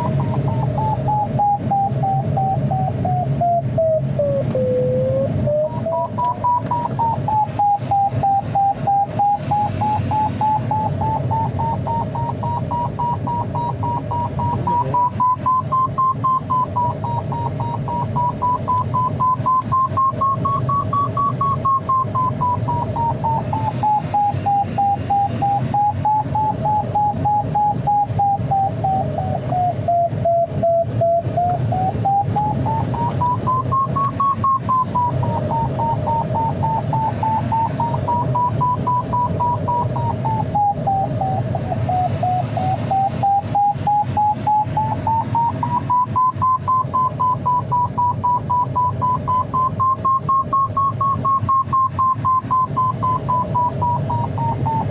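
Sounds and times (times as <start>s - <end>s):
airflow rushing around cockpit: 0.0s - 54.9s
variometer beeping rapidly: 0.0s - 54.9s.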